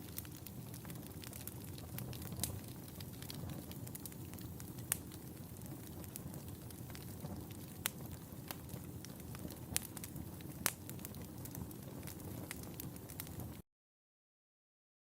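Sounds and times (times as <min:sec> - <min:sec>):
low rustle of flames: 0:00.0 - 0:13.6
wood fire popping and snapping: 0:00.0 - 0:13.6.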